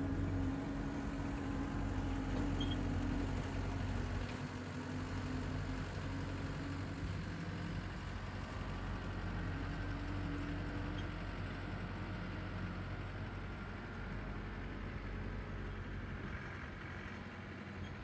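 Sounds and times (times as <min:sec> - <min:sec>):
tractor engine running: 0:00.0 - 0:17.8
power rake working ground: 0:00.0 - 0:18.0.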